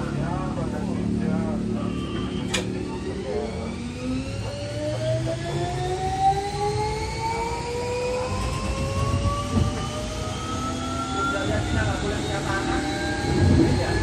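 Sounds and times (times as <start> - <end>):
train traction motor whine: 0.0 - 14.0.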